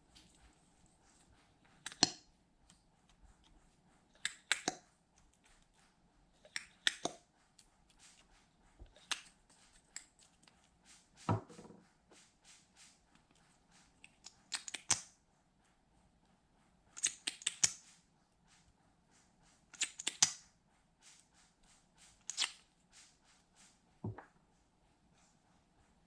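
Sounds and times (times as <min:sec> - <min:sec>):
hands working sticky slime: 0:00.0 - 0:15.1, 0:16.9 - 0:18.8, 0:19.4 - 0:24.4.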